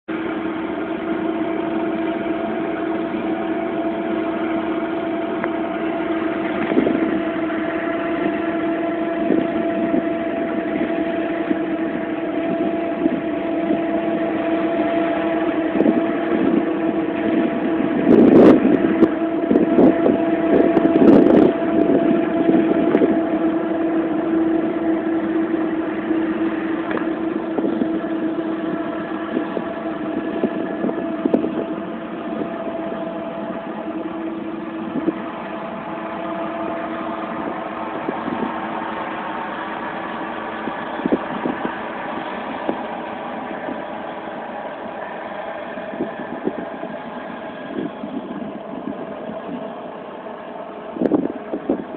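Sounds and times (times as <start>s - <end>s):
motor humming: 0.1s - 51.9s.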